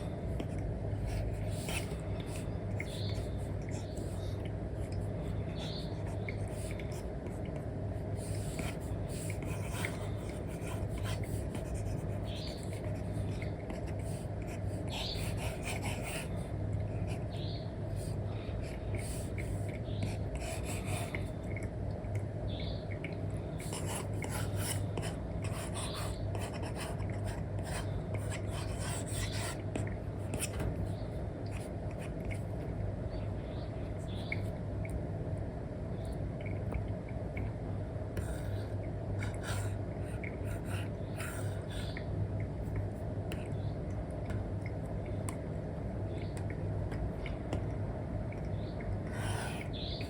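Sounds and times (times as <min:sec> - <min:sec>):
low background hum: 0:00.0 - 0:50.0.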